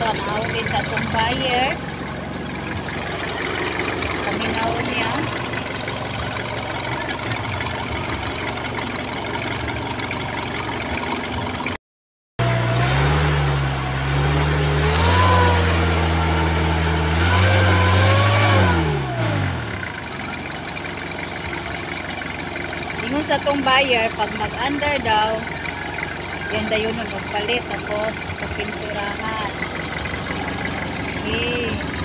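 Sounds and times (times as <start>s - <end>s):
car engine idling and revving: 0.0s - 11.8s, 12.4s - 32.0s.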